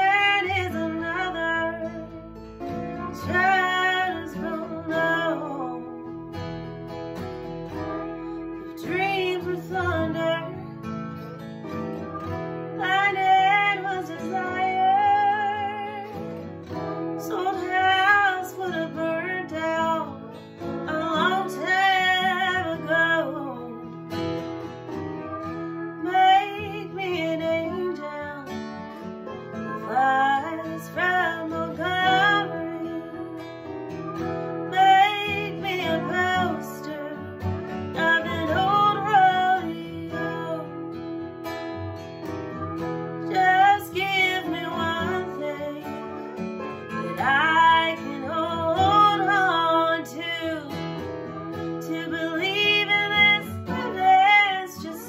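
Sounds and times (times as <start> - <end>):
woman singing: 0.0 - 6.3, 7.8 - 11.0, 11.7 - 24.1, 25.2 - 41.3, 42.6 - 55.0
lap steel guitar: 0.0 - 55.0
strummed acoustic guitar: 0.0 - 55.0.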